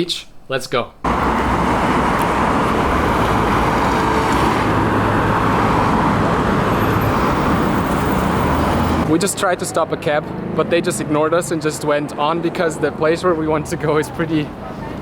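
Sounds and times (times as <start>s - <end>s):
road traffic rush: 1.0s - 15.0s.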